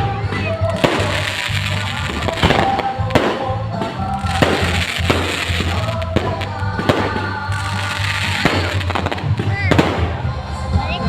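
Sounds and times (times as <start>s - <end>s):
fireworks bangs: 0.0s - 10.4s
music with steady bass: 0.0s - 11.0s.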